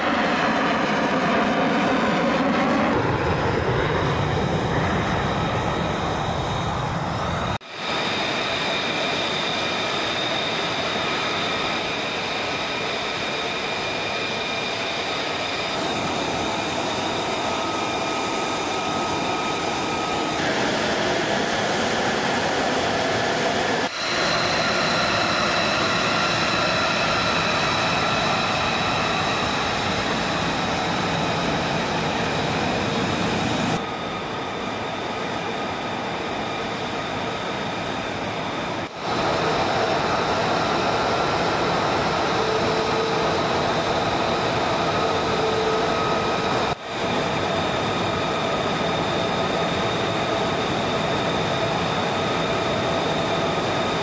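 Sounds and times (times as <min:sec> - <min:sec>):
high turbine whine: 0:00.0 - 0:54.0
jet engine roar: 0:00.0 - 0:54.0.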